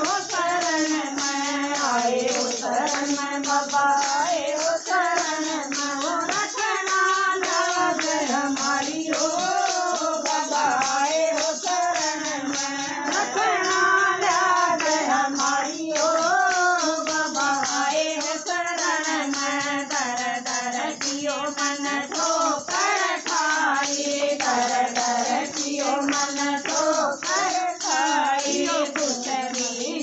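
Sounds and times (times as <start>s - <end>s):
steady percussion: 0.0s - 30.0s.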